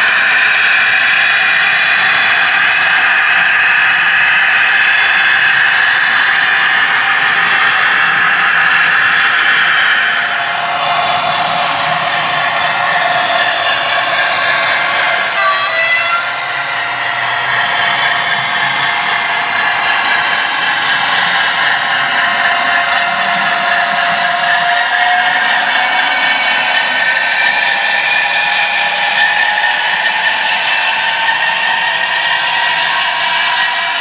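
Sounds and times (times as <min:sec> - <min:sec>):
model locomotive droning: 0:00.0 - 0:34.0
wheels rattling on track: 0:00.0 - 0:34.0.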